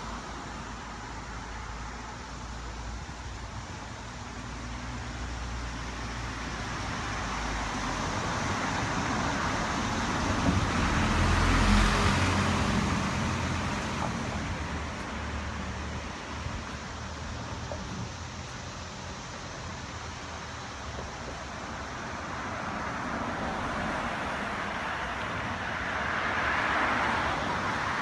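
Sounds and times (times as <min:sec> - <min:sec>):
car passing by: 0:00.0 - 0:28.0.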